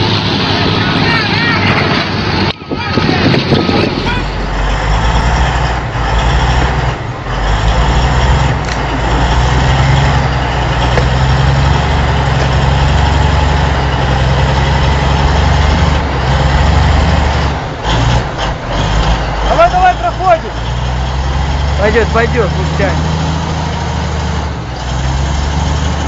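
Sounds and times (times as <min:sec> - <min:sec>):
heavy truck engine droning: 0:00.0 - 0:26.0.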